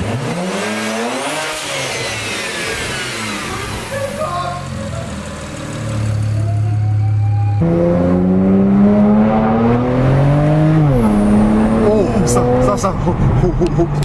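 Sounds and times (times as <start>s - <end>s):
turbocharged car engine revving: 0.0s - 14.0s.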